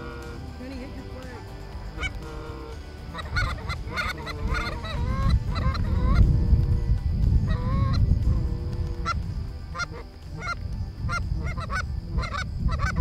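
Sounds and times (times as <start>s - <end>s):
geese honking: 0.0s - 0.5s, 1.9s - 6.7s, 7.4s - 13.0s
steady low rumble: 0.0s - 13.0s.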